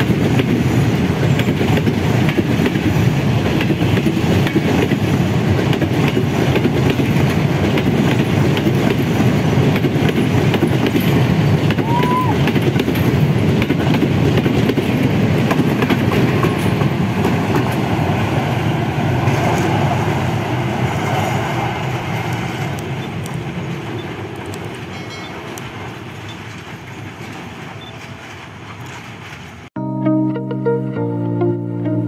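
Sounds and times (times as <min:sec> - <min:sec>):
train carriages rumbling past: 0:00.0 - 0:29.8.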